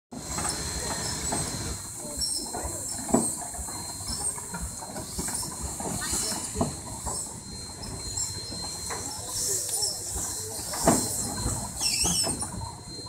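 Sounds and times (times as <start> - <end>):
steam traction engine running: 0.1 - 13.0
steam hissing: 0.2 - 12.8.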